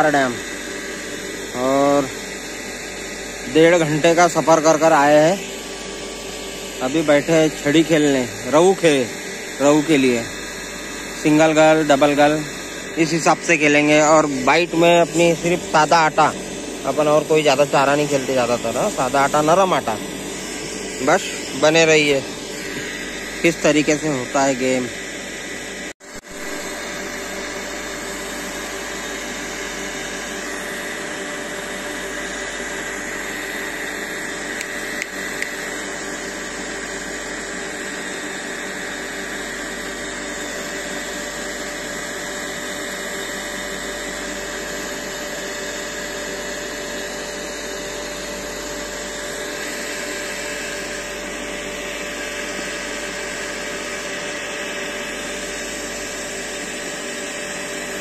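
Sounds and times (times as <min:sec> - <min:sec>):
electric water pump motor whirring: 0:00.0 - 0:58.0.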